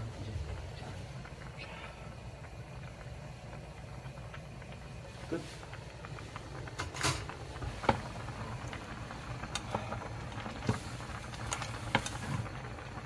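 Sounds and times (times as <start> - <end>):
pan of noodles boiling: 0.0 - 13.0.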